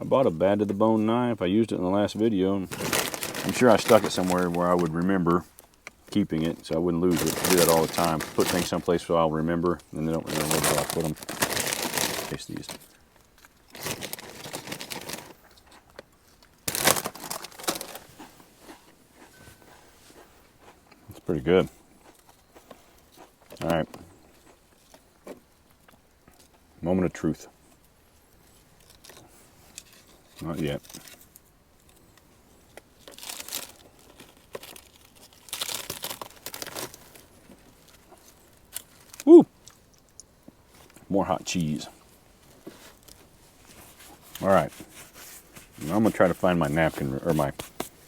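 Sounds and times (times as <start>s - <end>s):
crinkling and crunching: 2.3s - 19.4s, 20.1s - 26.7s, 27.6s - 48.0s.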